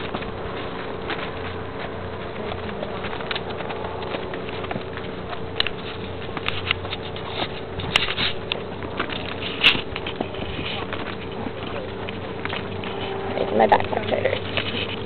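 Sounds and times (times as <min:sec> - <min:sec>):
hooves on dirt trail: 0:00.0 - 0:15.0.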